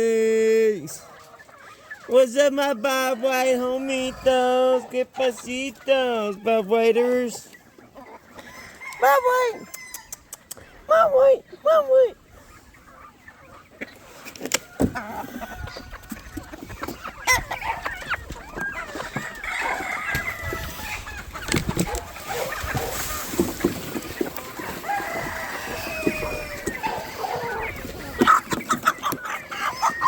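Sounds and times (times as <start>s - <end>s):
chickens clucking: 0.0s - 30.0s
roosters crowing: 0.8s - 10.4s, 14.5s - 30.0s.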